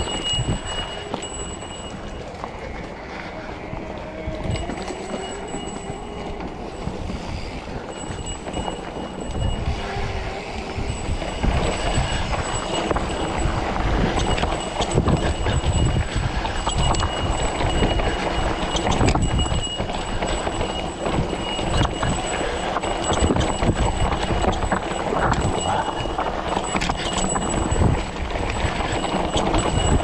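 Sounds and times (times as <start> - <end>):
mountain bike rattling on rocks: 0.0 - 30.0.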